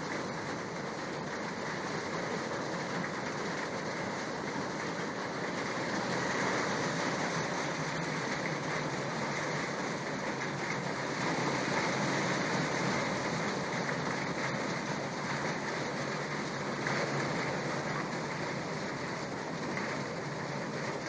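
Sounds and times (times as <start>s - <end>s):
hail and heavy rain pouring: 0.0s - 21.0s.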